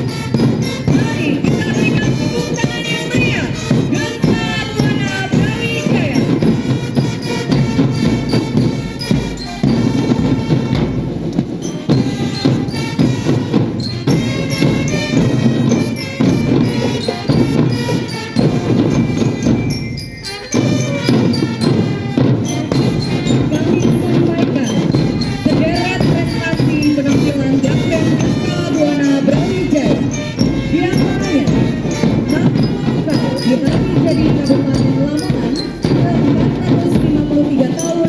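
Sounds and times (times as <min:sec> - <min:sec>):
snare and bass drums: 0:00.0 - 0:38.0
trumpets playing melody: 0:00.0 - 0:38.0.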